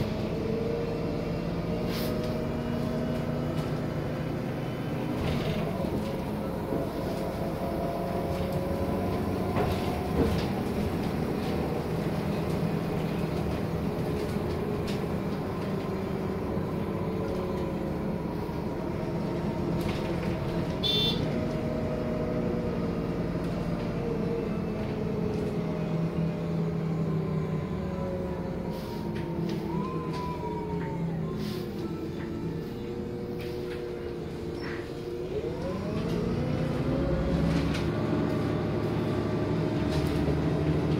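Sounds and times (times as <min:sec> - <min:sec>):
bus engine and drivetrain hum: 0:00.0 - 0:40.9
road noise and rattles: 0:00.0 - 0:40.9.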